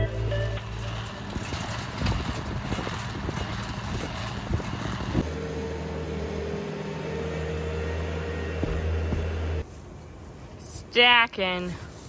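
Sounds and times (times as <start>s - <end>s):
machinery engine noise: 0.0s - 9.7s
steady engine hum: 0.0s - 9.7s.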